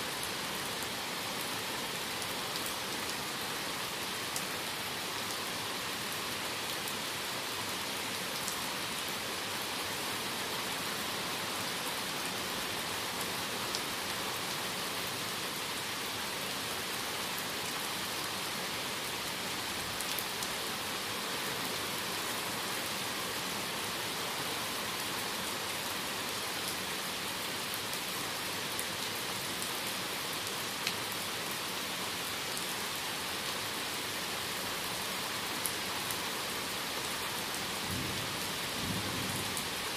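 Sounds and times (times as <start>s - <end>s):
rain hissing through forest canopy: 0.0s - 39.9s.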